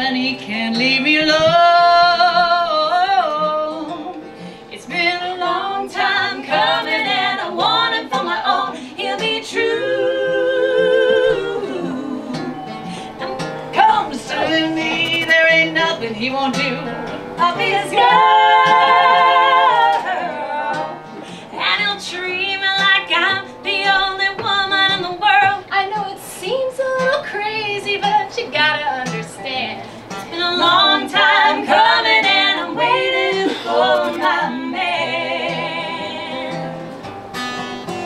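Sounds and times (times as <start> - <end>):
woman singing: 0.0 - 36.8
guitar: 0.0 - 38.0.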